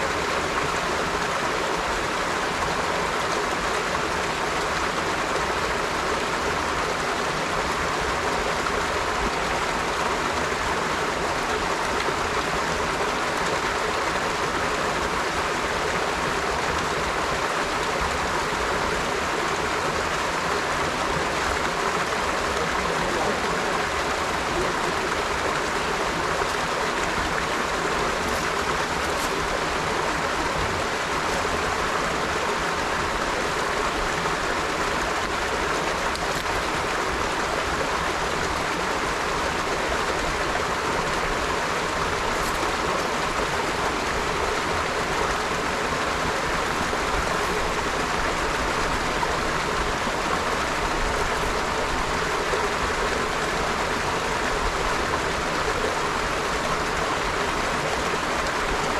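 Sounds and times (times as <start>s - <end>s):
river water flowing: 0.0s - 58.9s.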